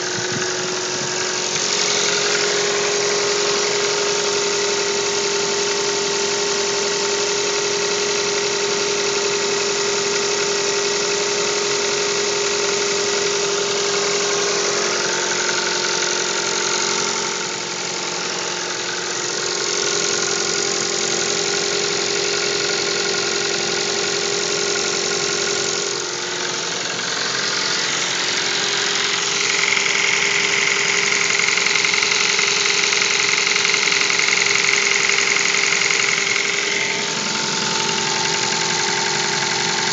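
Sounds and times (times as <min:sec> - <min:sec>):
car engine knocking: 0:00.0 - 0:39.9.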